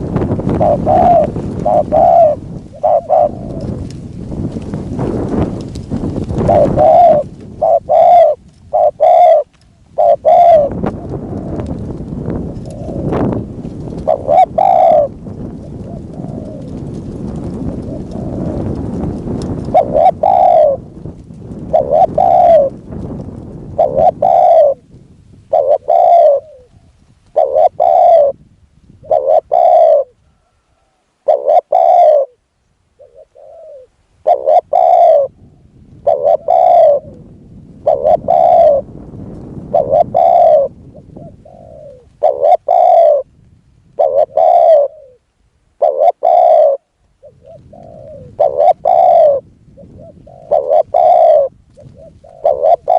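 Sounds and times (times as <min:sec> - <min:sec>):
doves cooing: 0:00.0 - 0:24.9, 0:25.5 - 0:28.4, 0:29.0 - 0:43.3, 0:43.9 - 0:52.9.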